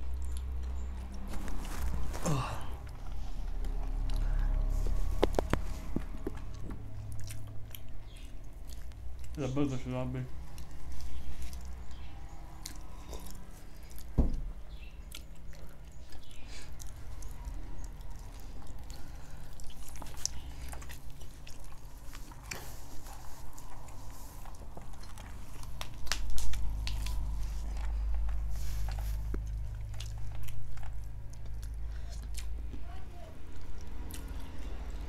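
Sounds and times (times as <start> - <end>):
chewing: 0.0 - 9.6, 10.3 - 35.0
steady low hum: 0.0 - 35.0.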